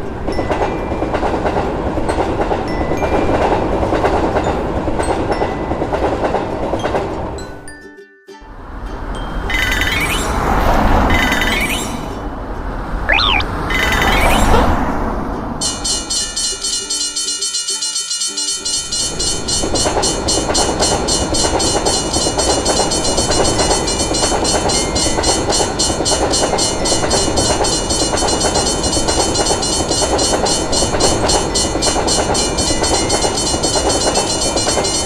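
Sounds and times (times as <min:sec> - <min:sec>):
train rumbling past: 0:00.0 - 0:07.5, 0:08.6 - 0:17.0, 0:18.7 - 0:35.0.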